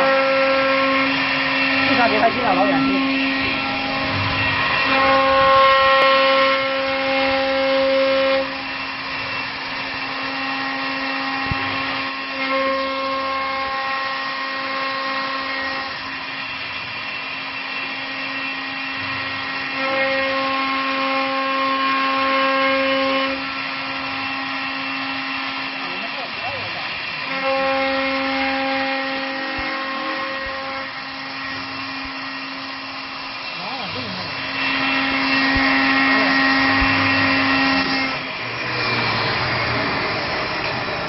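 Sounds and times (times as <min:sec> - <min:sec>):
higher cutter whine: 0:00.0 - 0:41.0
wood lathe motor whine: 0:00.0 - 0:41.0.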